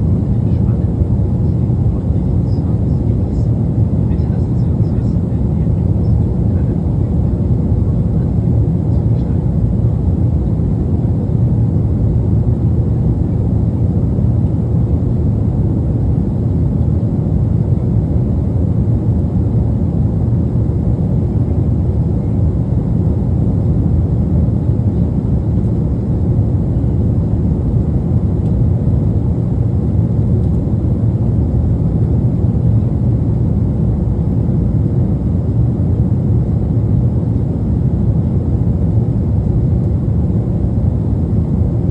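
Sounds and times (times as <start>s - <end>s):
engine rumble in airliner cabin: 0.0s - 41.9s.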